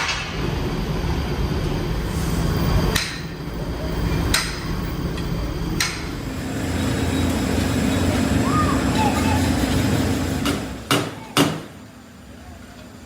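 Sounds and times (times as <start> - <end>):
workshop machinery running: 0.0 - 13.0.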